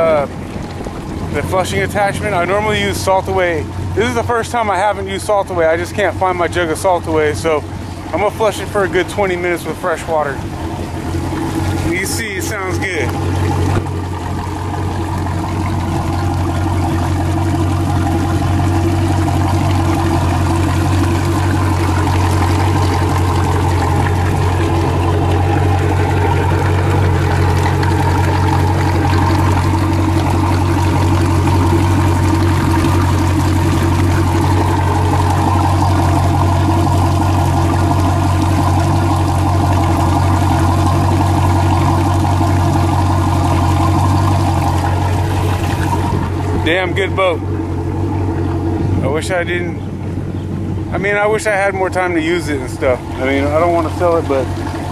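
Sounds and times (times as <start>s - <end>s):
water splashing onto pavement: 0.0s - 4.8s, 7.2s - 48.8s, 52.8s - 54.9s
boat engine idling: 0.0s - 54.9s.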